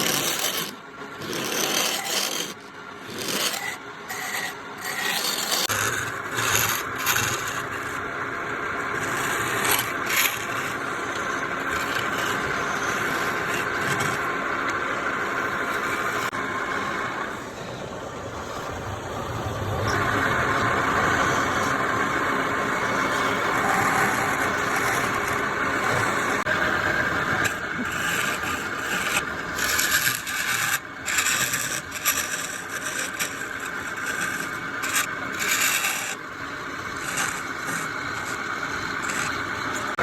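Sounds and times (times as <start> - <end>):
turning tool scraping wood: 0.0 - 16.4, 21.2 - 40.0
wood lathe running: 0.0 - 17.3, 19.9 - 40.0.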